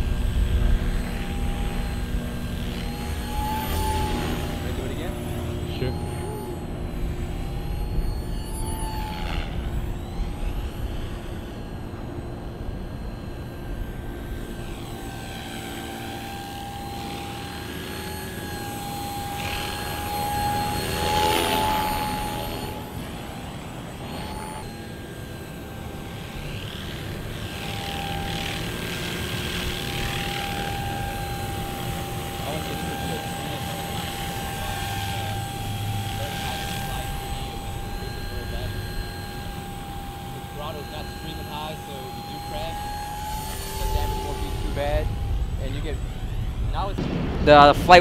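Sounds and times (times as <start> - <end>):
rc helicopter motor whine: 0.0 - 47.0
rotor blades whooshing: 0.0 - 48.0.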